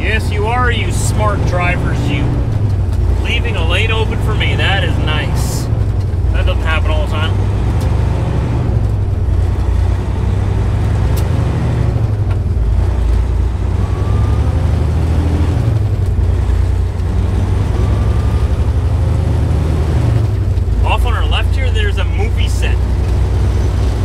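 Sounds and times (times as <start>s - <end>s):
road noise: 0.0s - 24.0s
truck engine running: 0.0s - 24.0s.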